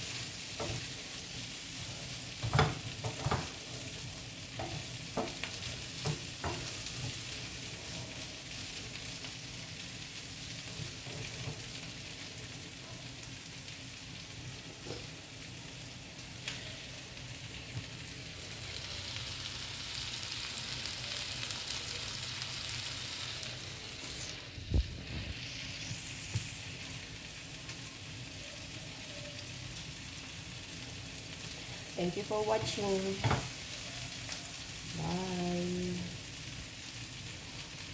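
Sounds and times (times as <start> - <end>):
food sizzling in a frying pan: 0.0 - 37.9.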